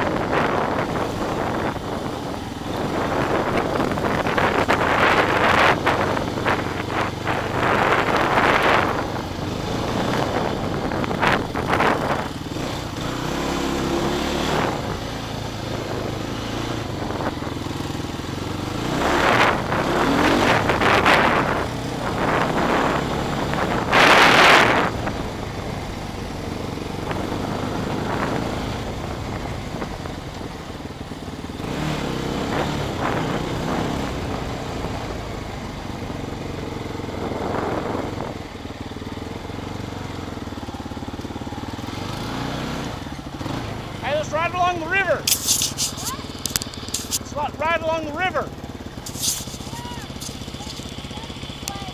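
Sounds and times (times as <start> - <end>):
atv engine revving: 0.0 - 51.9.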